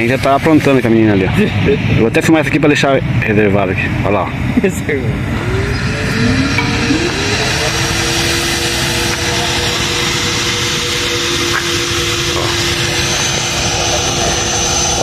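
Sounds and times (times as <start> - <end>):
motor whine: 0.0 - 15.0.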